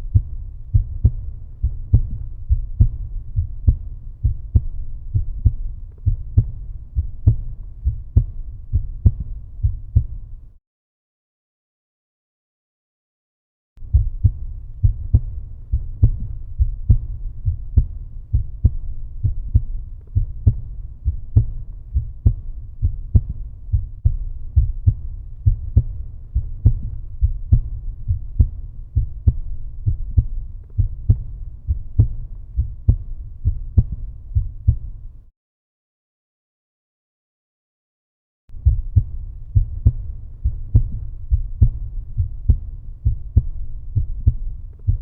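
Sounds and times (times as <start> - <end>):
heartbeat: 0.0 - 10.5, 13.8 - 35.3, 38.5 - 45.0.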